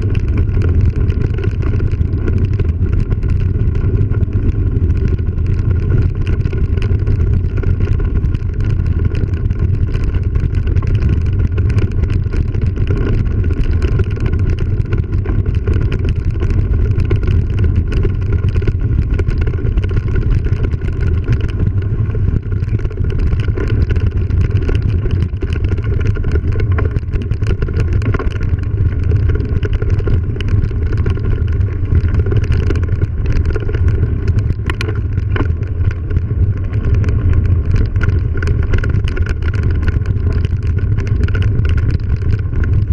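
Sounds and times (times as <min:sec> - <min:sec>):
bike rattles and knocks: 0:00.0 - 0:42.9
bike tyre noise on dirt: 0:00.0 - 0:42.9.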